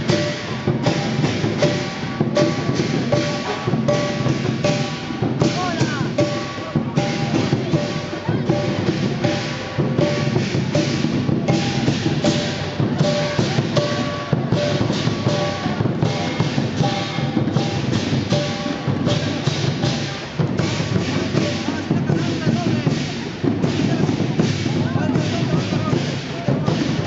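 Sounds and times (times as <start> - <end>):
clashing cymbals: 0.0 - 27.0
pounding drum: 0.0 - 27.0.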